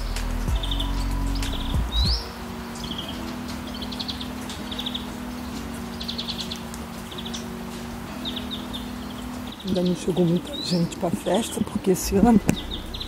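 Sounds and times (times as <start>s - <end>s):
small birds trilling: 0.0s - 13.0s.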